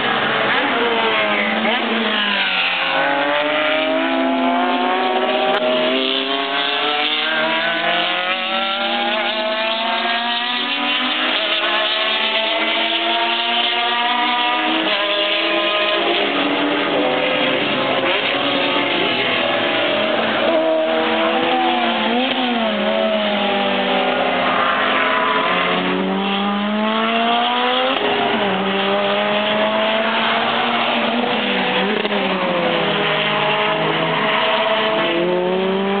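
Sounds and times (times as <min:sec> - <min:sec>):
racing car engines revving: 0:00.0 - 0:36.0.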